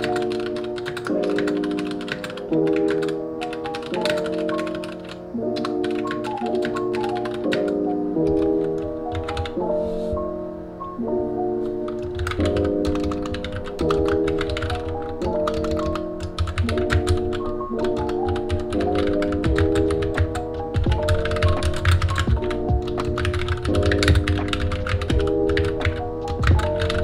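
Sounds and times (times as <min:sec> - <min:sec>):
mechanical keyboard typing: 0:00.0 - 0:09.6, 0:11.9 - 0:27.0
soft background music chords: 0:00.0 - 0:27.0.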